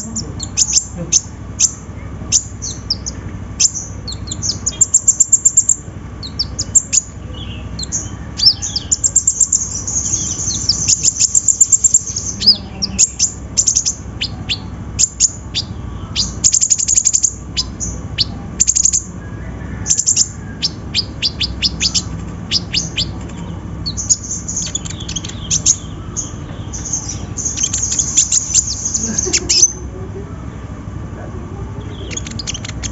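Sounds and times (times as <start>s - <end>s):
sunbird singing: 0.0s - 32.9s.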